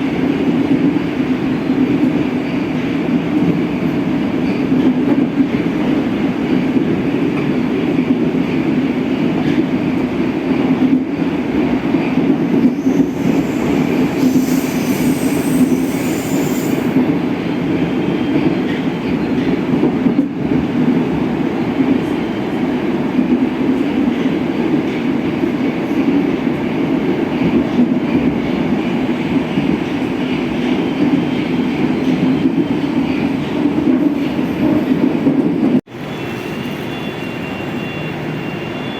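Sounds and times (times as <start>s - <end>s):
metro train rumbling: 0.0s - 38.9s.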